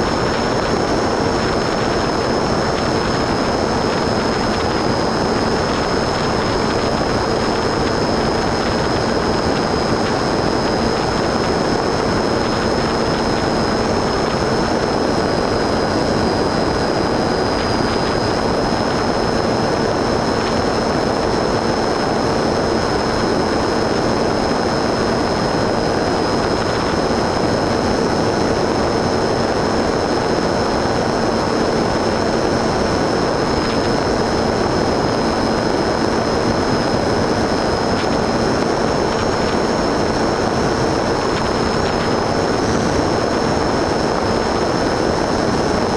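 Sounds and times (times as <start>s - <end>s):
model aircraft motor whine: 0.0s - 45.9s
wind rushing over microphone: 0.0s - 45.9s.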